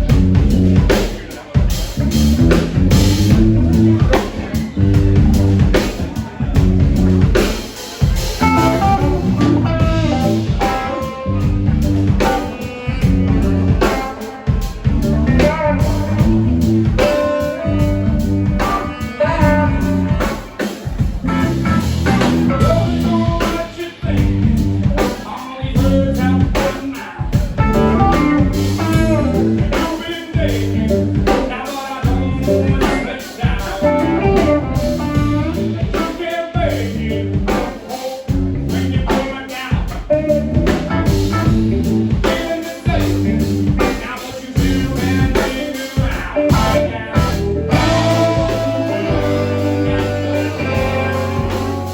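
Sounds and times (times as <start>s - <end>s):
bass: 0.0s - 51.9s
drum kit steady beat: 0.0s - 51.9s
electric guitar: 0.0s - 51.9s.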